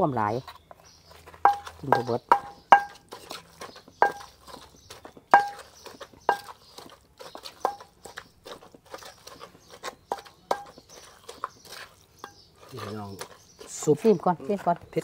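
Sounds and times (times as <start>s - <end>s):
pestle clonking in clay mortar: 0.2s - 15.0s.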